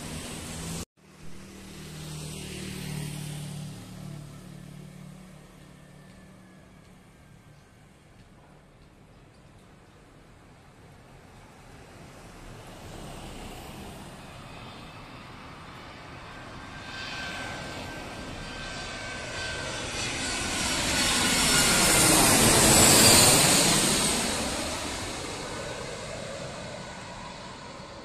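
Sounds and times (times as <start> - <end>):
jet airliner passing overhead: 0.0 - 9.3, 10.4 - 28.0.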